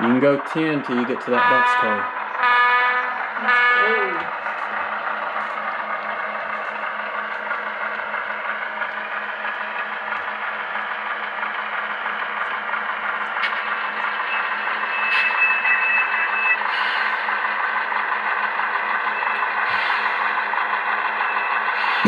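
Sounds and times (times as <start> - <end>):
model locomotive engine sound: 0.0 - 22.0.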